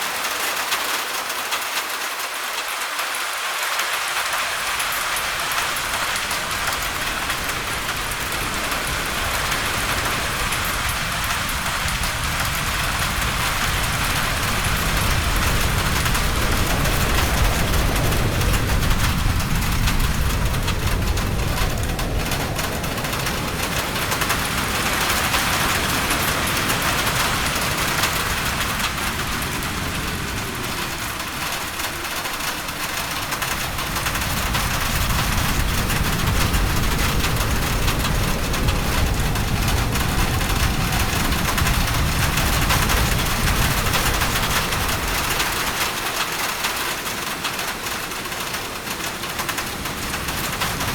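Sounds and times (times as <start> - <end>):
steady rain hiss: 0.0 - 50.9
gusting wind rumble: 4.2 - 50.9.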